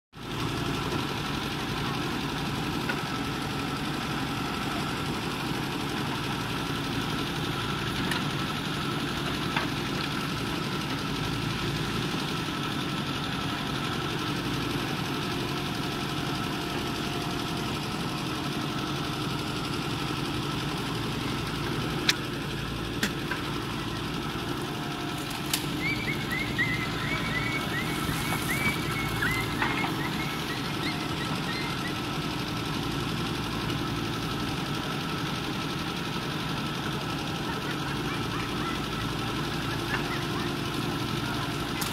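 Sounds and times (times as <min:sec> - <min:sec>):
diesel engine running: 0:00.2 - 0:41.9.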